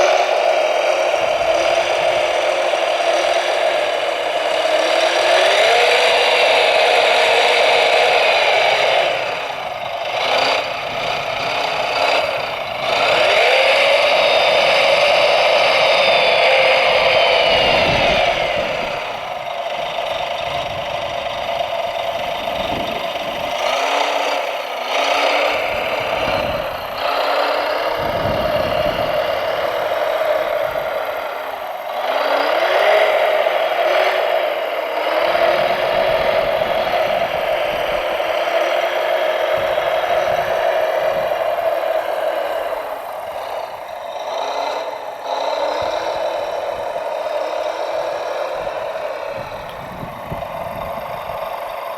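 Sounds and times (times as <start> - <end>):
model vehicle motors humming: 0.0 - 51.9
short rising motor rev: 0.0 - 51.9.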